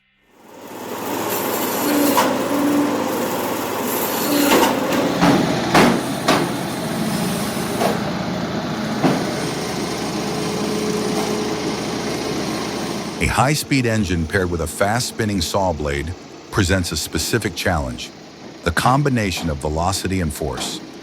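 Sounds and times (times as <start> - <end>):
firewood machine engine running: 0.4 - 21.0.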